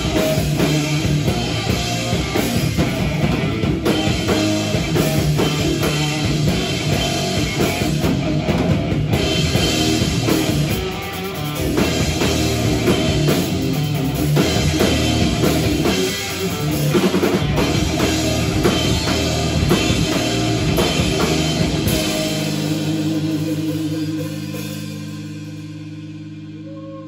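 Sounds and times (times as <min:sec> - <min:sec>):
drum kit playing loudly: 0:00.0 - 0:27.0
electric bass: 0:00.0 - 0:27.0
electric guitar: 0:00.0 - 0:27.0.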